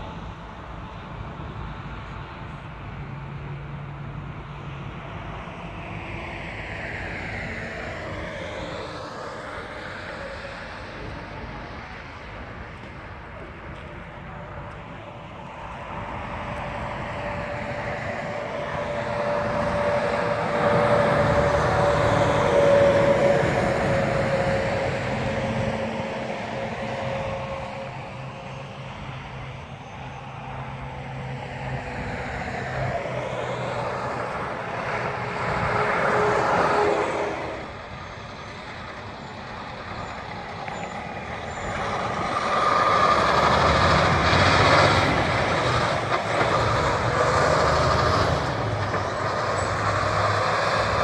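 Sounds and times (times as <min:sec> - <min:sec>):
heavy truck passing: 0:00.0 - 0:51.0
vehicle passing with whine: 0:00.0 - 0:51.0.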